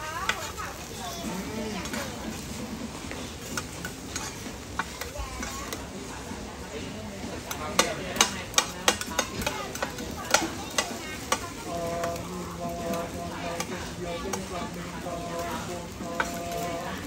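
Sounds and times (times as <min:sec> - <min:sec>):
frying oil sizzling: 0:00.0 - 0:17.0
metal utensils clanking on a pan: 0:00.1 - 0:02.5, 0:03.1 - 0:06.0, 0:06.8 - 0:17.0.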